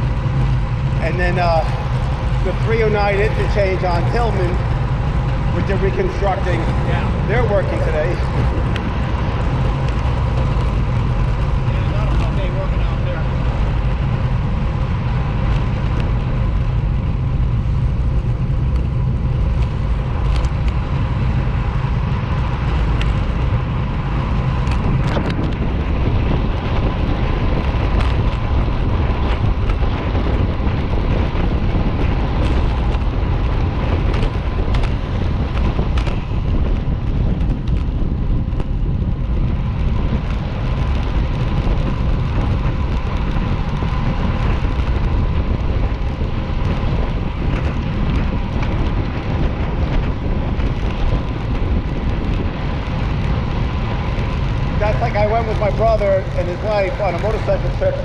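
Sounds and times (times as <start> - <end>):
motorcycle engine: 0.0 - 58.0
wind noise on microphone: 0.0 - 58.0.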